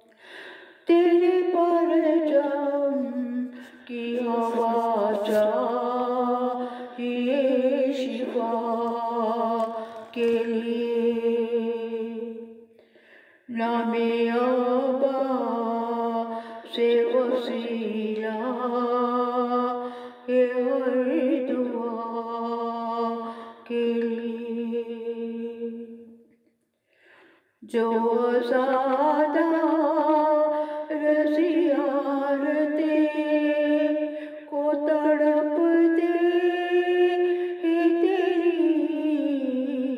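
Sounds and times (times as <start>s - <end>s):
woman chanting: 0.8s - 12.6s, 13.5s - 26.2s, 27.6s - 39.9s.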